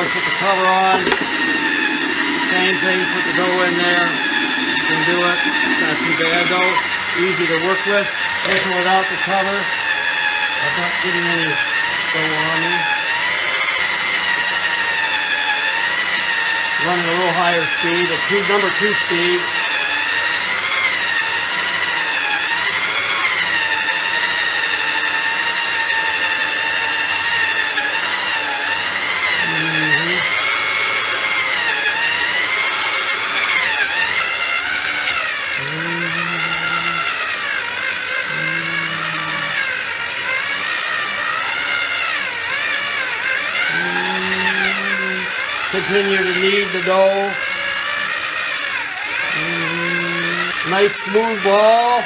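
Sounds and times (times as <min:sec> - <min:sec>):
mixer motor whine: 0:00.0 - 0:52.0.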